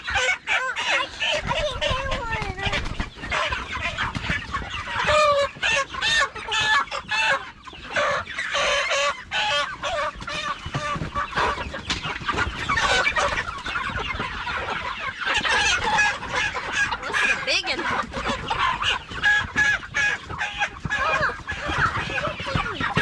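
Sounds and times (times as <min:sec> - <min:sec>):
chickens clucking and squawking: 0:00.0 - 0:23.0.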